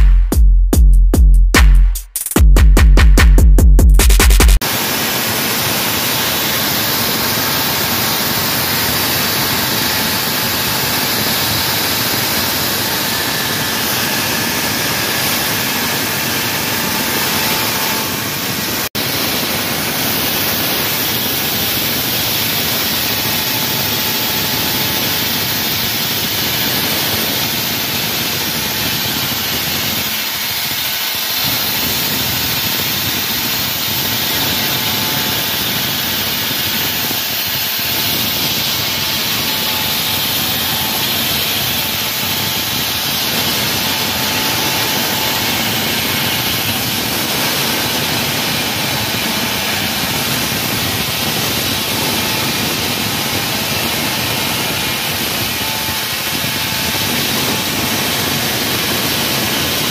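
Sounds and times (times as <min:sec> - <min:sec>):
wall saw grinding into wall: 0:04.6 - 0:59.9.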